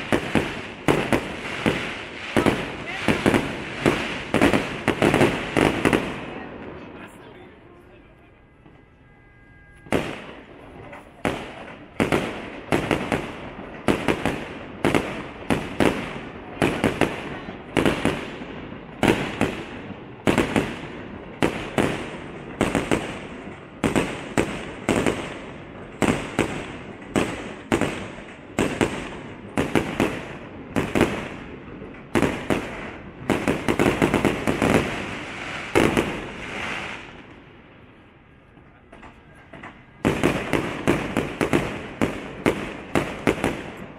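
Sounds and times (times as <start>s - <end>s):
fireworks bursting with crackle: 0.0s - 43.9s.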